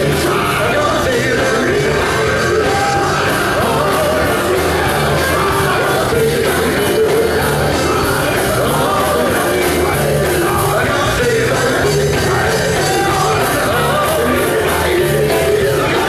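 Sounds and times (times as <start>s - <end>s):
backing band drums and bass: 0.0s - 16.0s
male vocal group singing: 0.0s - 16.0s.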